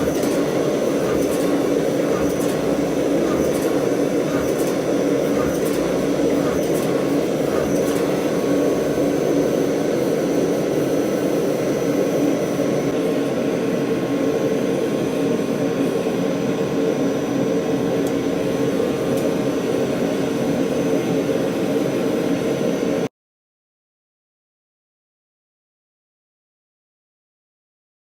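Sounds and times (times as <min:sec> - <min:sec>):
shop equipment roaring: 0:00.0 - 0:23.0.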